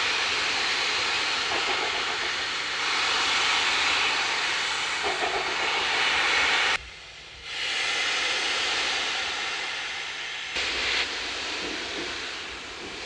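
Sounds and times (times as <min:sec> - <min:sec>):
steam locomotive hissing steam: 0:00.0 - 0:13.0.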